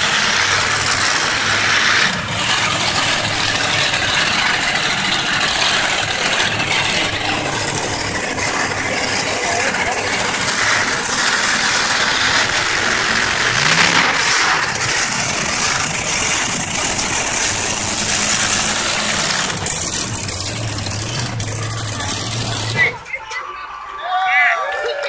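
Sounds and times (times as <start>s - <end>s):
truck engine revving: 0.0s - 23.1s.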